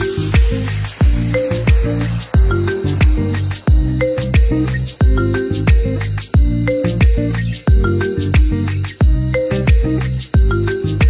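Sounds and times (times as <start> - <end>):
deep kick drum beat: 0.0 - 10.6
held bass notes: 0.0 - 11.0.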